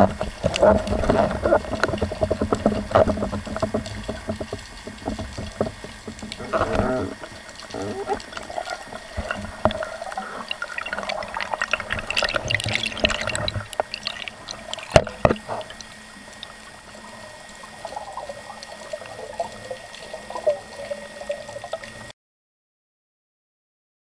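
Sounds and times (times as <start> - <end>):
dense crackling clicks: 0.0 - 22.1
underwater bubbling: 0.0 - 22.1.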